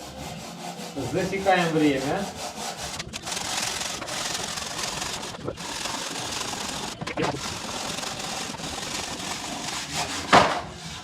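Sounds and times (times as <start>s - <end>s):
hand saw cutting block: 0.0s - 11.0s.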